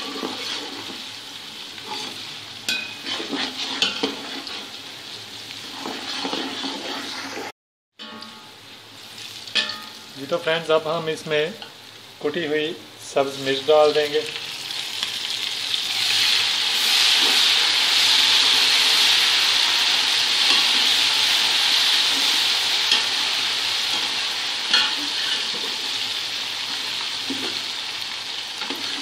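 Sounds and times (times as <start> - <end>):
onions sizzling in hot oil: 0.0 - 12.4, 13.1 - 29.0.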